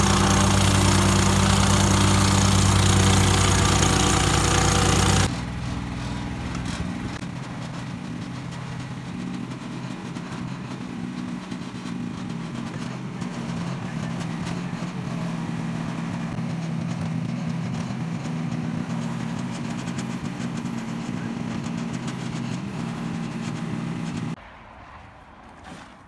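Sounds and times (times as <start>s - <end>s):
excavator engine running: 0.0s - 24.4s.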